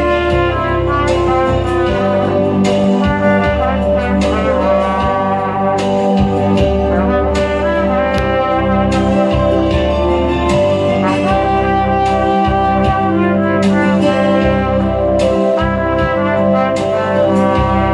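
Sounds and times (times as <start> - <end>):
bass: 0.0 - 17.9
drum beats: 0.0 - 17.9
trumpet playing slow melody: 0.0 - 17.9.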